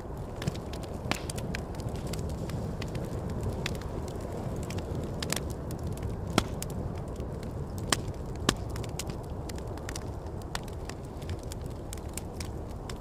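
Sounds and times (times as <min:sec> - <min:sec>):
campfire crackling and popping: 0:00.0 - 0:13.0
low rush of wind: 0:00.0 - 0:13.0.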